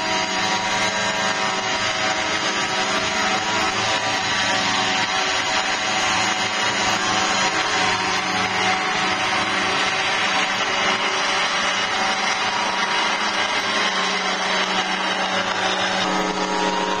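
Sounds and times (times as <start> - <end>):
helicopter engine and rotors droning: 0.0 - 17.0.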